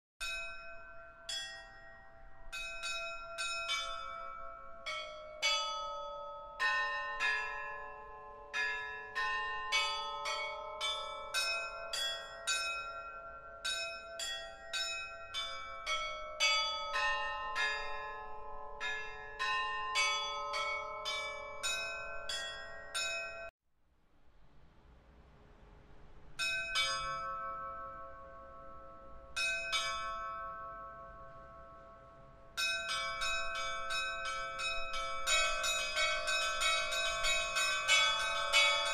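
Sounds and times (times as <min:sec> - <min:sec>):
church bells pealing: 0:00.2 - 0:23.5, 0:26.4 - 0:38.9.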